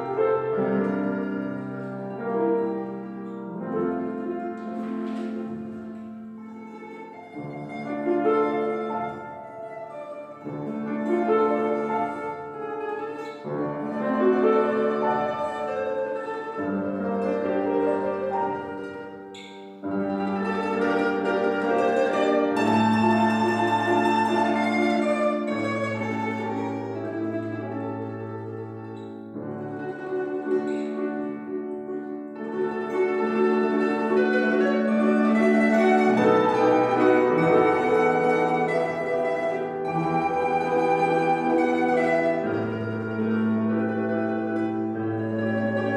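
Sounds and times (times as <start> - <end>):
plucked string instrument melody: 0.0 - 45.9.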